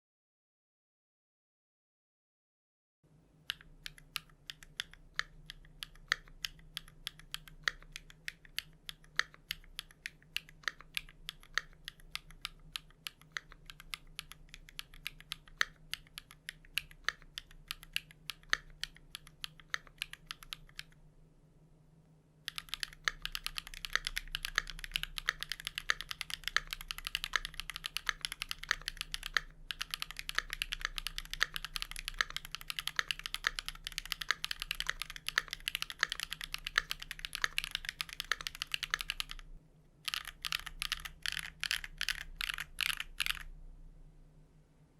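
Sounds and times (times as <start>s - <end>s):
mechanical keyboard typing: 3.5s - 21.0s, 22.5s - 39.5s, 40.1s - 43.5s.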